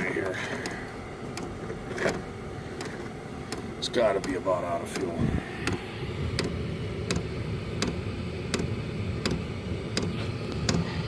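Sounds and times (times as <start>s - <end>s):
fuel pump ticking: 0.0s - 11.0s
heater fan and burner rumble: 0.0s - 11.0s.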